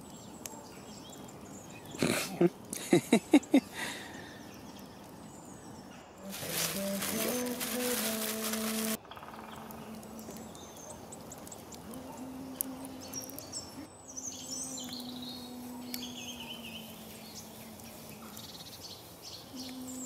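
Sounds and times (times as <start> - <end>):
birds chirping: 0.0 - 20.0
campfire crackling: 0.0 - 20.0.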